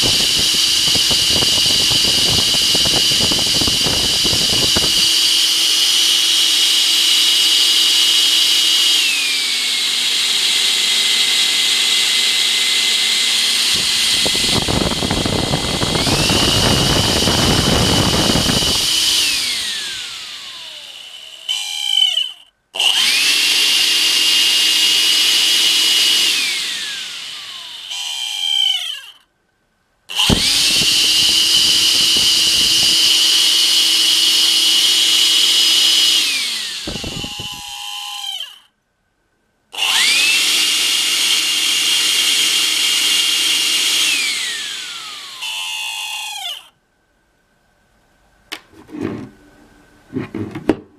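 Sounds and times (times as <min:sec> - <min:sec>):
vacuum motor whining: 0:00.0 - 0:29.2, 0:30.1 - 0:38.6, 0:39.8 - 0:46.7.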